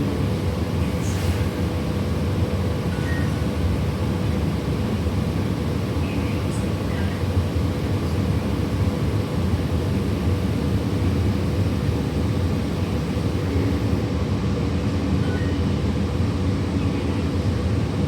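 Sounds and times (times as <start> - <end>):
bus engine and road noise: 0.0 - 15.2.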